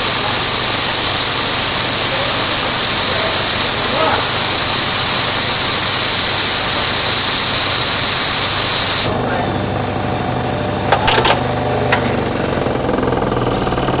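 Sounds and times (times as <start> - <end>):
machine tool high-pitched whine: 0.0 - 14.0
motor hum: 0.0 - 14.0.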